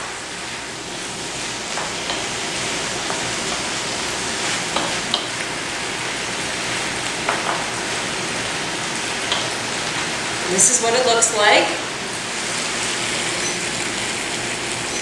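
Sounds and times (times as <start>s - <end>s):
sauce sizzling in a skillet: 0.0s - 15.0s.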